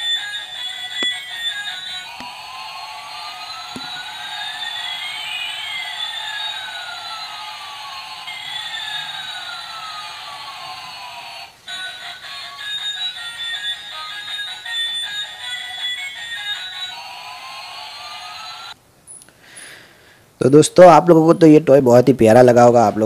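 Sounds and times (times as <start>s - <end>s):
toy jet engine sound effect: 0.0s - 18.8s.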